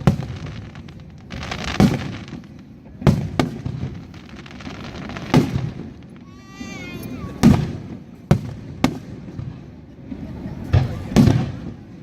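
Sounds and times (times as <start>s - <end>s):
fireworks bursting with booming bangs: 0.0s - 12.0s.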